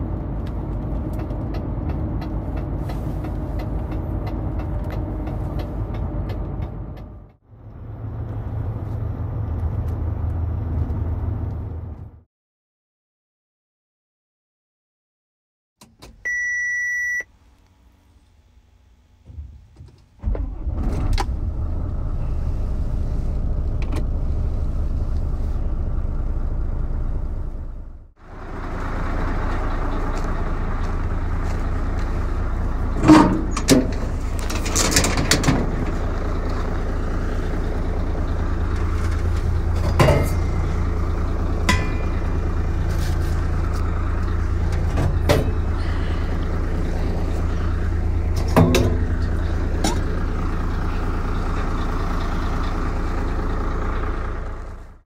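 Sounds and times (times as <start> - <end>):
truck diesel engine starting and idling: 0.0 - 12.3, 15.8 - 55.0.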